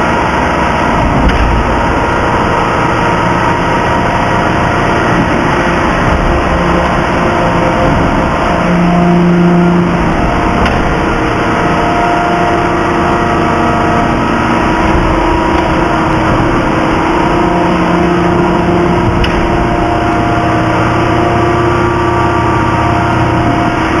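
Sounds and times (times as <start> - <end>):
hydraulic press drone: 0.0 - 24.0
lower hum: 0.0 - 24.0.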